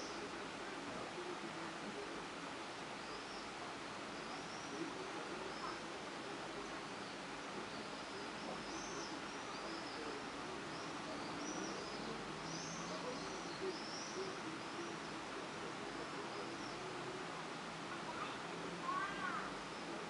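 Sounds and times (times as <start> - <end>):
birds chirping: 0.0 - 20.0
faint low notes: 0.0 - 20.0
steady hiss: 0.0 - 20.0.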